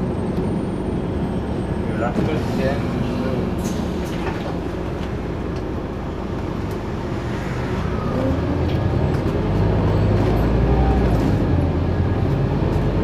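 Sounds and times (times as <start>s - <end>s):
diesel engine drone: 0.0s - 13.0s
road noise: 0.0s - 13.0s.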